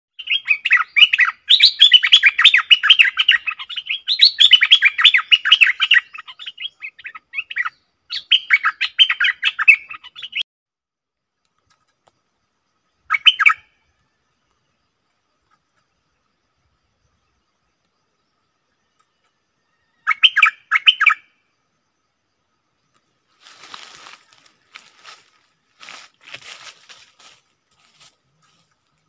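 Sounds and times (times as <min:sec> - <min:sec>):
bird chirping: 0:00.1 - 0:10.4, 0:11.3 - 0:29.0.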